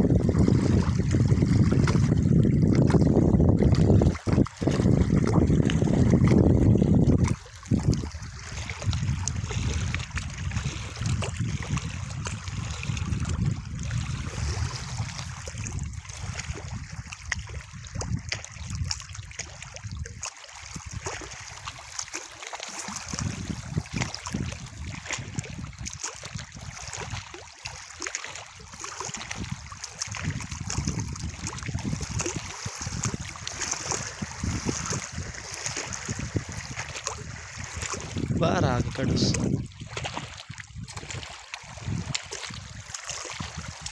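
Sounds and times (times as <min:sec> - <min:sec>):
water lapping and trickling: 0:00.0 - 0:43.9.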